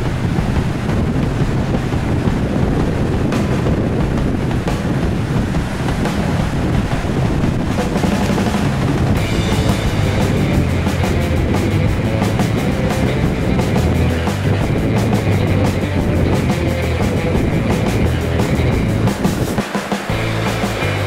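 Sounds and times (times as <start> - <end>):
rock music with drums: 0.0 - 21.0.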